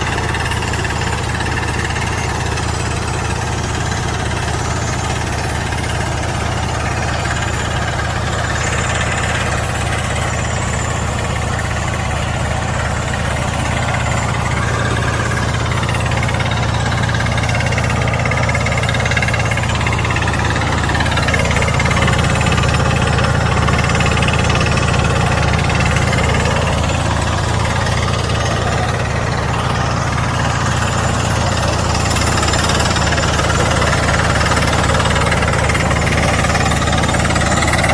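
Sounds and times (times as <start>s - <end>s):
rock drill hammering: 0.0s - 37.9s
steady low drone: 0.0s - 37.9s.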